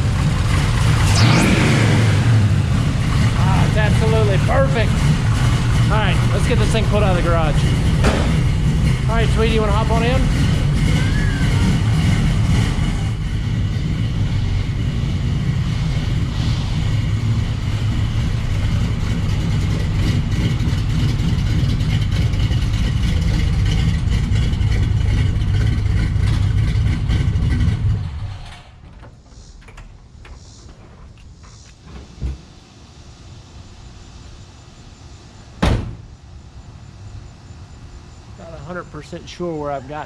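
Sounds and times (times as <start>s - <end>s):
pickup engine running: 0.0s - 28.5s, 32.4s - 40.0s.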